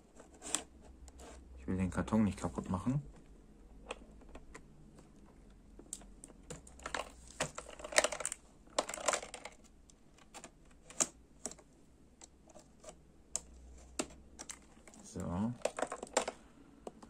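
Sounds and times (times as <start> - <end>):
clicks and taps of box handling: 3.1 - 17.0.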